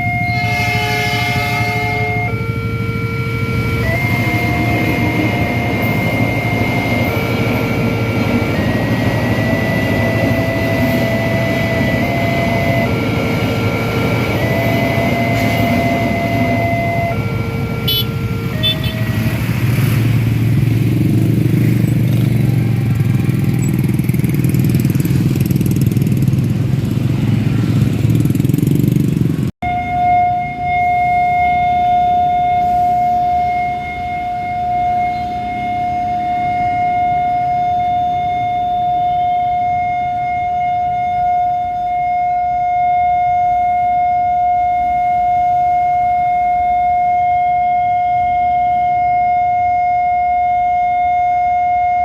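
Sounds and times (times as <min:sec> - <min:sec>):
crossing siren electronic tones: 0:00.0 - 0:52.0
motorcycle engines: 0:00.0 - 0:52.0
road traffic: 0:00.0 - 0:52.0.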